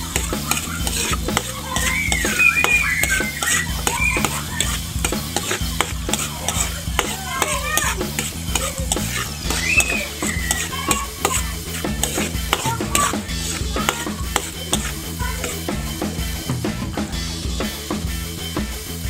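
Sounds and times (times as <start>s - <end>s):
food sizzling in oil: 0.0s - 16.6s
metal spatula scraping wok: 0.0s - 16.6s.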